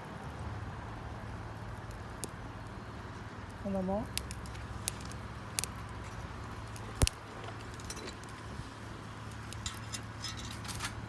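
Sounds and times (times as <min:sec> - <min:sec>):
campfire crackling: 0:00.0 - 0:11.0
sharp pops of fire: 0:00.0 - 0:11.0.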